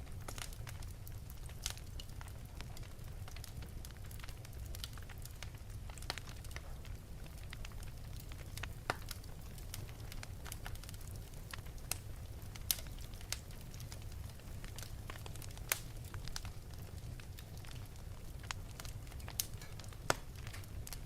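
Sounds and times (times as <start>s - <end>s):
fire crackling and popping: 0.0s - 21.0s
low fire rumble: 0.0s - 21.0s.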